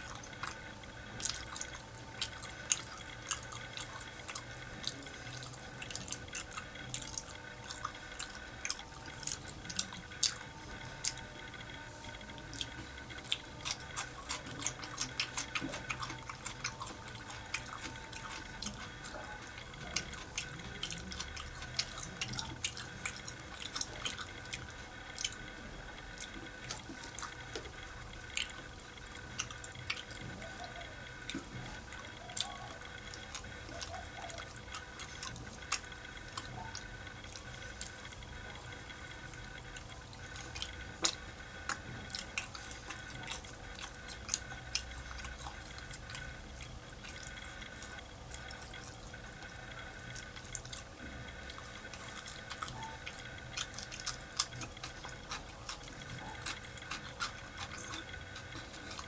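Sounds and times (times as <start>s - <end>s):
faint steady hum: 0.0s - 59.0s
wet chewing and lip-smacking: 0.0s - 59.0s.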